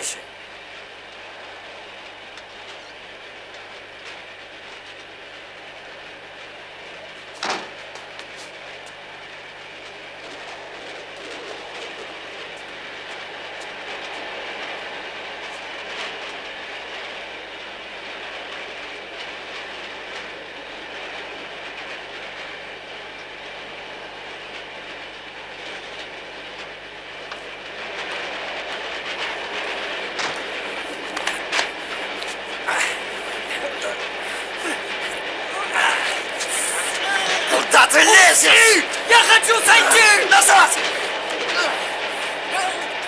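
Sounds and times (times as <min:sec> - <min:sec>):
train rumbling at speed: 0:00.0 - 0:43.0
wheels clattering over rail joints: 0:00.6 - 0:35.6.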